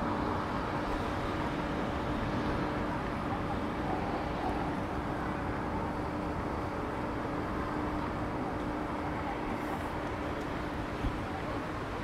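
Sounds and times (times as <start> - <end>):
constant low hum: 0.0 - 12.0
vehicle traffic: 0.0 - 12.0.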